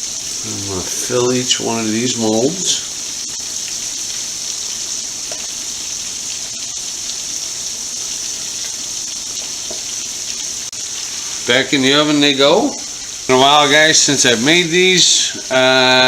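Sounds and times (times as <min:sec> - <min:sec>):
food sizzling in hot fat: 0:00.0 - 0:16.0.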